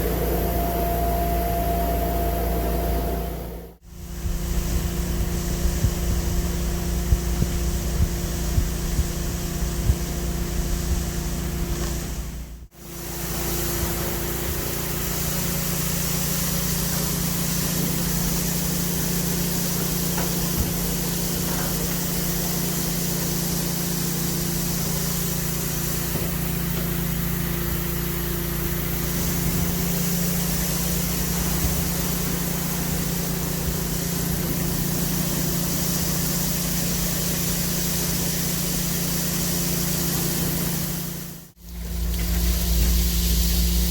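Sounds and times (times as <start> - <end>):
vacuum machine humming: 0.0 - 43.9.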